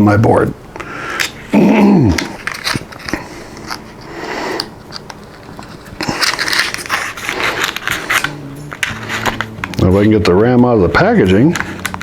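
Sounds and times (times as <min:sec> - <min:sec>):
plastic packaging crackling: 0:02.0 - 0:12.0.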